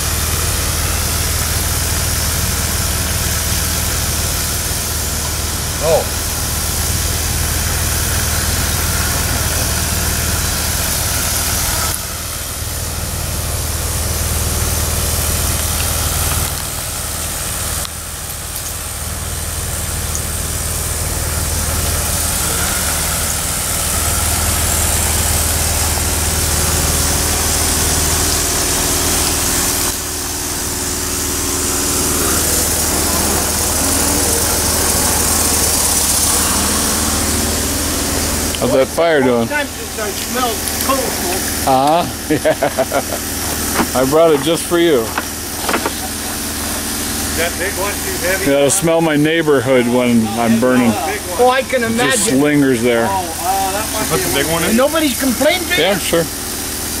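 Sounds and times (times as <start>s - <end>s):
engine humming: 0.0s - 57.0s
constant hiss: 0.1s - 57.0s.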